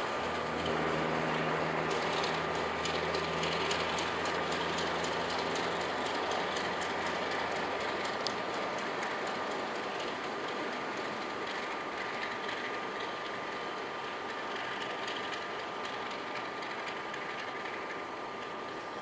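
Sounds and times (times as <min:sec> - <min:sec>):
diesel locomotive engine: 0:00.0 - 0:19.0
train wheel noise: 0:00.0 - 0:19.0.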